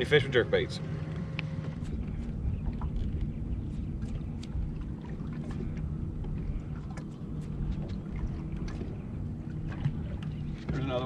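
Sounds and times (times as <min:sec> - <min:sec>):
electric trolling motor humming: 0:00.0 - 0:11.0
water and wind rumble: 0:00.0 - 0:11.0.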